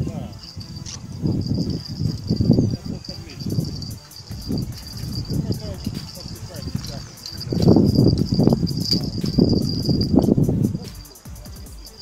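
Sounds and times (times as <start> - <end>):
high-pitched insect buzzing: 0.0 - 12.0
irregular low rumbling: 0.4 - 10.8.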